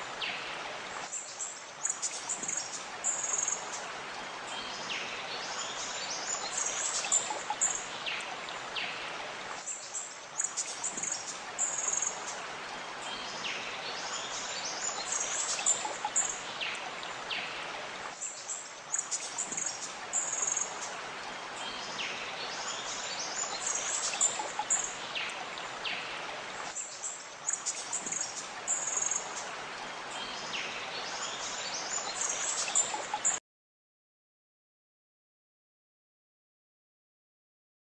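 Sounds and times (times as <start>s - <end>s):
running water rushing: 0.0s - 33.4s.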